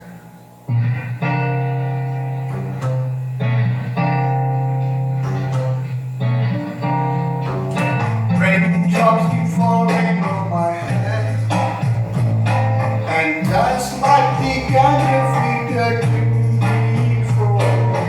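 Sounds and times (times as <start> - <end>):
guitar chords: 0.0 - 18.0
low sustained bass notes: 0.7 - 18.0.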